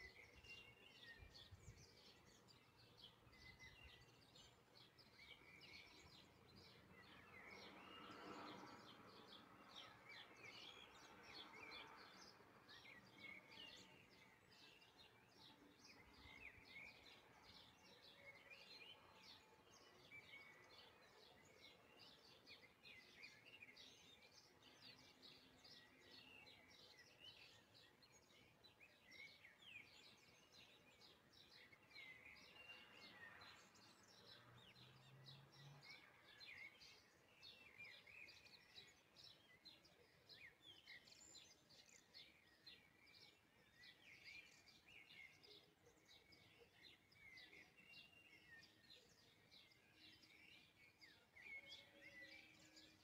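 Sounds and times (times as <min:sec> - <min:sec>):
faint birdsong chirps: 0:00.0 - 0:53.0.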